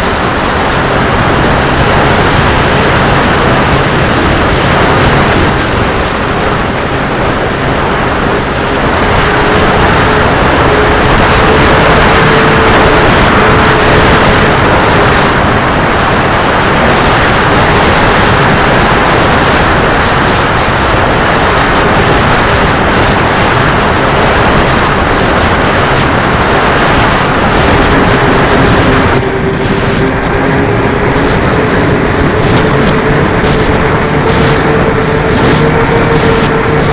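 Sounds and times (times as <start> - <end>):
motor humming: 0.0 - 36.9
wind rushing over microphone: 0.0 - 36.9.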